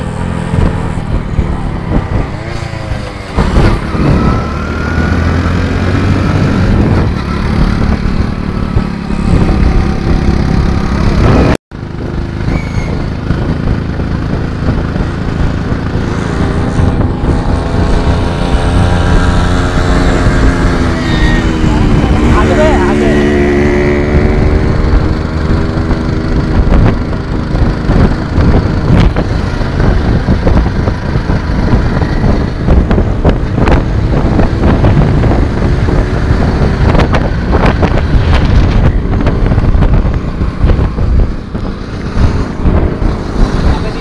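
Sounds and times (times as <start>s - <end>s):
motorcycle engine running: 0.0s - 44.0s
wind buffeting microphone: 0.0s - 44.0s.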